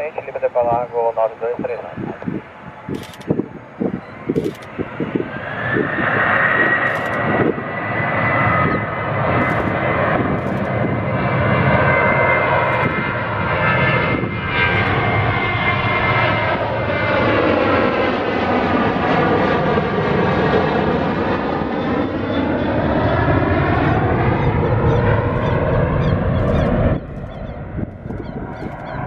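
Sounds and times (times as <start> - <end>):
jet engines spooling up: 0.1 - 29.0.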